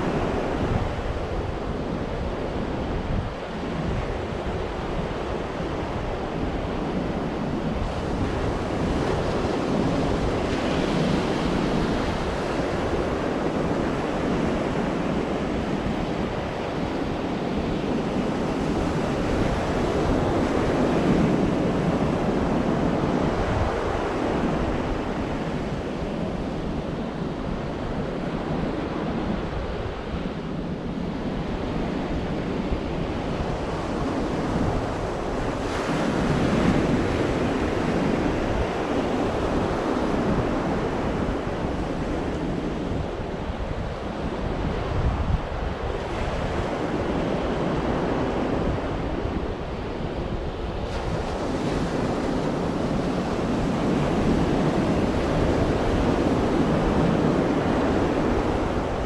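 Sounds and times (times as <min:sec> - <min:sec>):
sea waves breaking on beach: 0:00.0 - 0:59.0
wind rumbling on microphone: 0:00.0 - 0:59.0.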